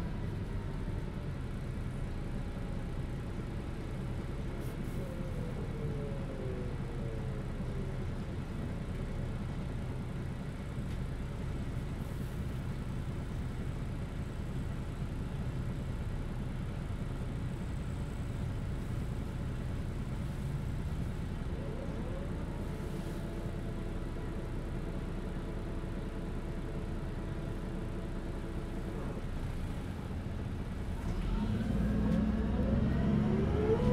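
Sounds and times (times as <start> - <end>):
bus diesel engine rumble: 0.0 - 33.9
bus whine: 0.0 - 33.9.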